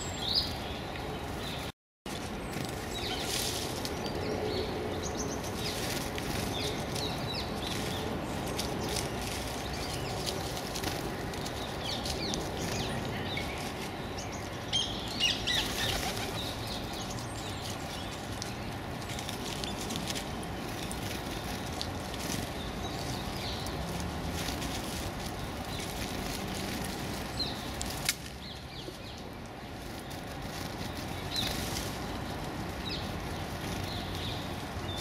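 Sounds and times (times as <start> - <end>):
small songbirds chirping: 0.0 - 35.0
wings fluttering: 5.4 - 14.0, 15.4 - 35.0.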